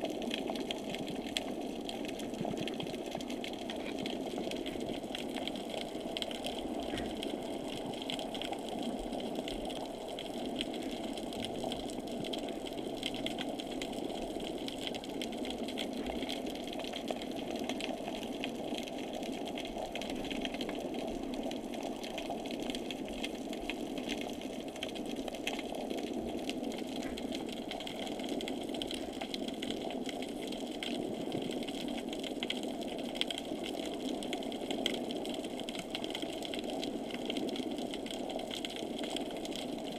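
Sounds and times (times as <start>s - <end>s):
faint fine crackle: 0.0s - 39.9s.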